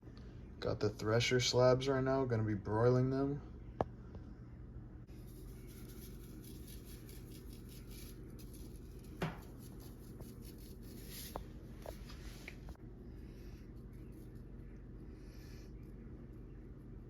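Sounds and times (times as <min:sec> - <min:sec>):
low hum: 0:01.6 - 0:17.0.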